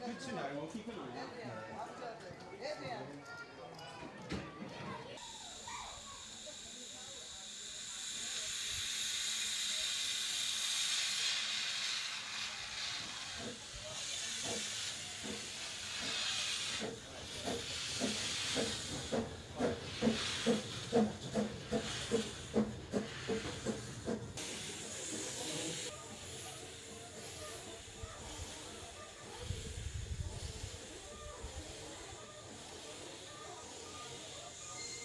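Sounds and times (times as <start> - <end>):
steam hissing: 5.2 - 35.0
steam locomotive exhaust chuffs: 5.2 - 35.0.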